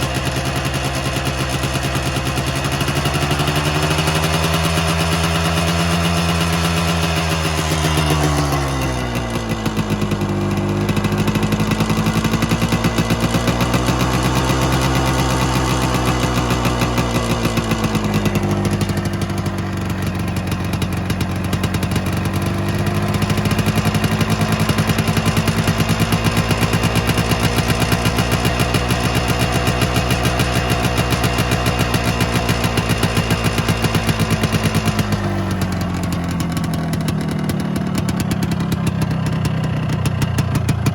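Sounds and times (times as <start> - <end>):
two-stroke engine popping exhaust: 0.0 - 40.9.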